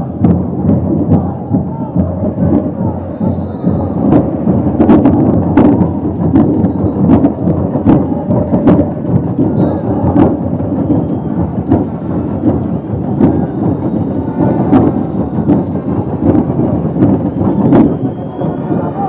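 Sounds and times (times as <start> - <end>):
stadium crowd chanting: 0.0 - 19.0
steady drum beat: 0.0 - 19.0.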